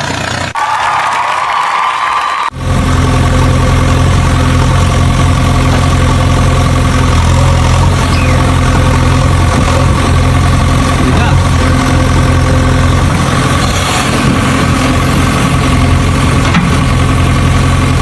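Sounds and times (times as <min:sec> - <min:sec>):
tractor engine idling: 0:00.0 - 0:00.6, 0:02.6 - 0:18.0.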